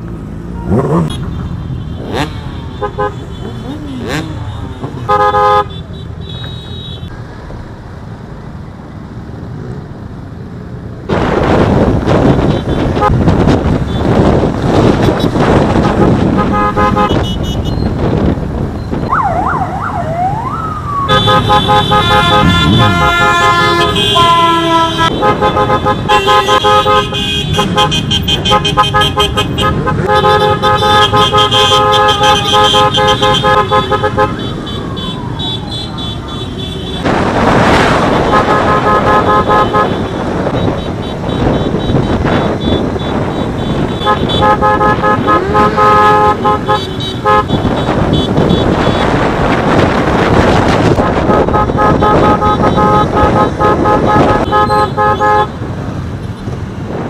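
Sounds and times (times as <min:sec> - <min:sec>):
motorcycle engines running: 0:00.0 - 0:57.0
vehicle horns honking: 0:00.5 - 0:07.1, 0:12.1 - 0:18.0, 0:21.1 - 0:56.5.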